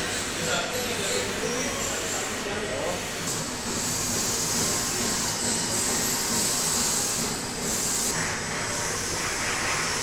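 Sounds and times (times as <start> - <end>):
printer machine hiss: 0.0 - 10.0.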